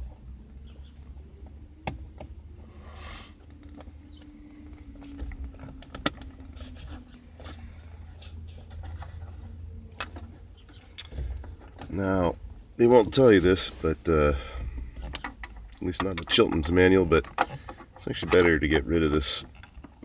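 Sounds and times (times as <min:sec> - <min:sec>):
steady low hum: 0:00.0 - 0:19.6.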